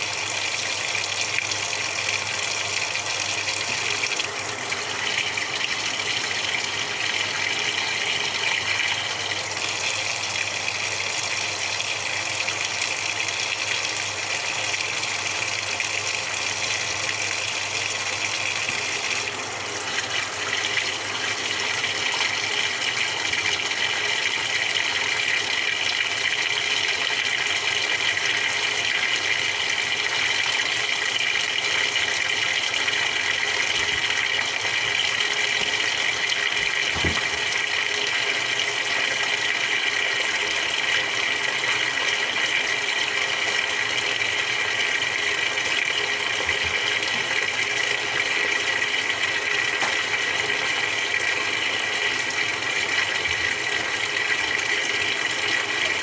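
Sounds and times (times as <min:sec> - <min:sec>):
washing machine water rushing: 0:00.0 - 0:56.0.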